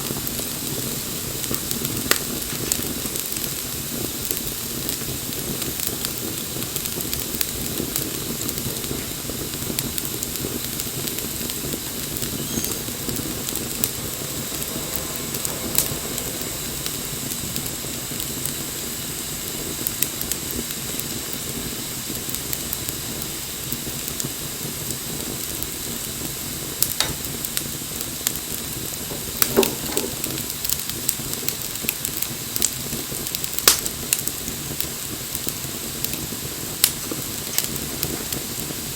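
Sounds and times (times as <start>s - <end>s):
fire pops: 0.0s - 38.9s
wood fire hissing and crackling: 0.0s - 38.9s.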